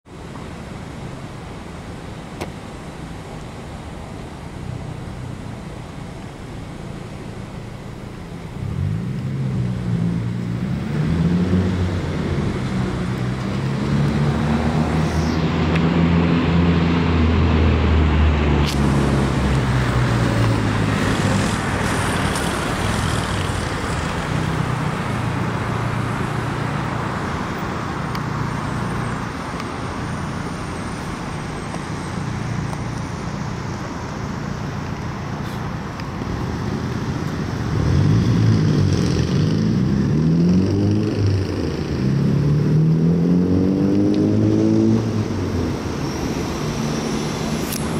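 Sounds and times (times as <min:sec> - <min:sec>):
road traffic passing: 0:00.0 - 0:47.9
vehicle engine: 0:00.1 - 0:47.9.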